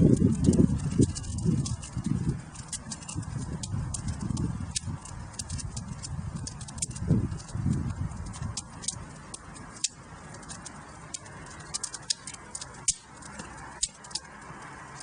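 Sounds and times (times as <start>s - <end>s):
soft hiss of flames: 0.0s - 15.0s
wood fire crackling and popping: 0.0s - 15.0s.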